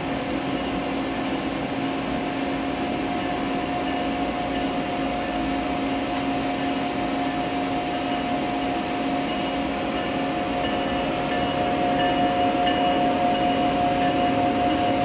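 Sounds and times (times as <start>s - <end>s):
electric train hum and rumble: 0.0s - 15.0s
faint high whining tones: 0.1s - 15.0s.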